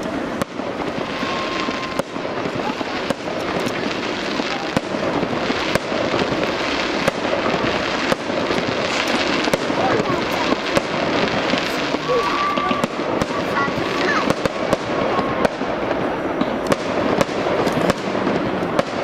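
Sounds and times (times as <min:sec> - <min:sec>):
firework shells bursting: 0:00.0 - 0:19.0
fireworks crackle: 0:00.0 - 0:19.0.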